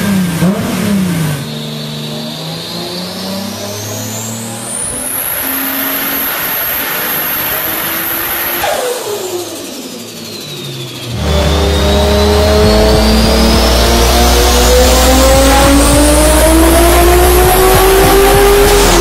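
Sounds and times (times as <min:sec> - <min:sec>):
car engine revving on a dynamometer: 0:00.0 - 0:19.0.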